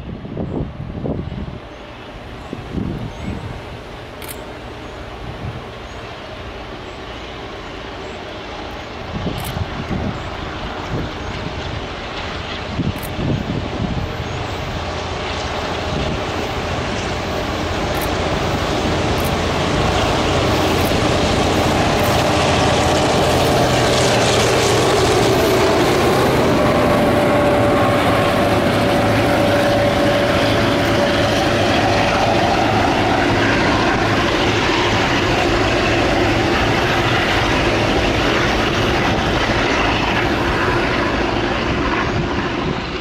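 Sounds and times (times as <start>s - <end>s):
wind buffeting microphone: 0.0s - 6.5s, 8.8s - 43.0s
diesel locomotive engine: 0.0s - 43.0s.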